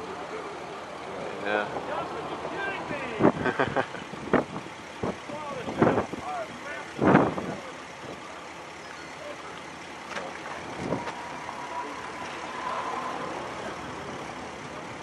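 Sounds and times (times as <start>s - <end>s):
rushing background noise: 0.0s - 15.0s.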